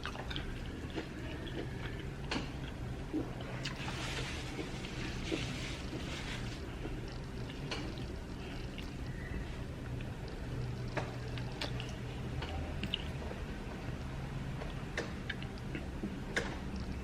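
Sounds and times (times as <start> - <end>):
wet eating squishes: 0.0 - 14.1
low steady hum: 0.0 - 17.0.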